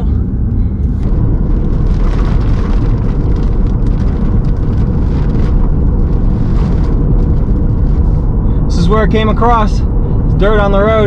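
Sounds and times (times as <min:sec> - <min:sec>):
road noise: 0:00.0 - 0:11.0
wind buffeting a moving car: 0:00.0 - 0:11.0.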